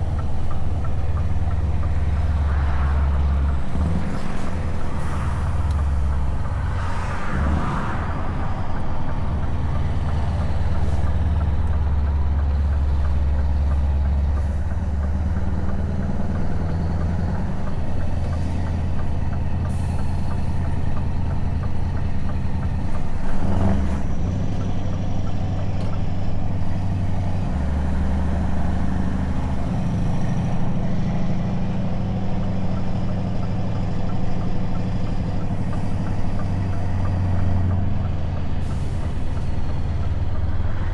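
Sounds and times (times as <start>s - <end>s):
truck engine deep drone: 0.0s - 40.9s.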